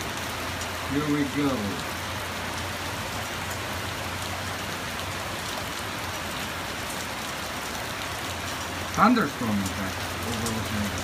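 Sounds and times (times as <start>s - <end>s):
heavy rain drumming: 0.0s - 11.0s.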